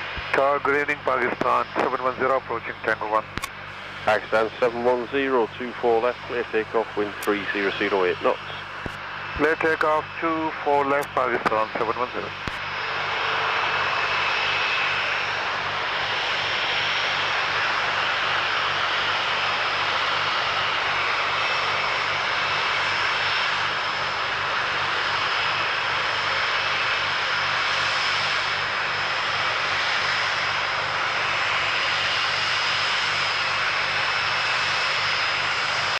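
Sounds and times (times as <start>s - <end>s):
jet engines at takeoff power: 0.0s - 35.9s
thin high engine whine: 0.0s - 35.9s.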